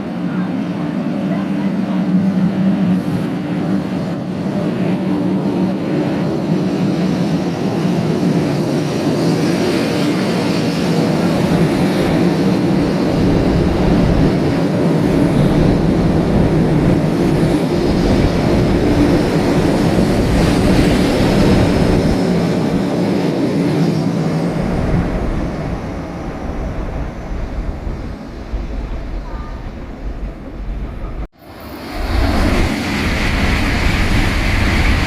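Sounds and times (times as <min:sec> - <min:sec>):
low train hum: 0:00.0 - 0:35.0
train rushing past: 0:00.0 - 0:35.0.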